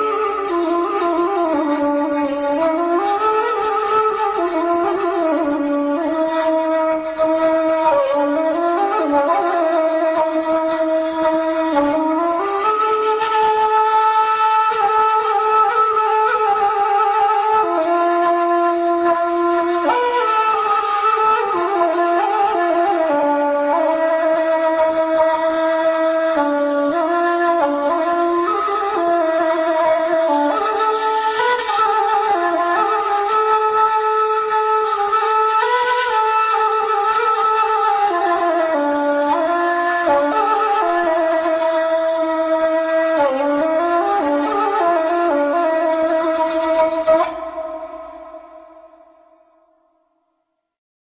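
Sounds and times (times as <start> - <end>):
reedy wind instrument melody: 0.0 - 49.5.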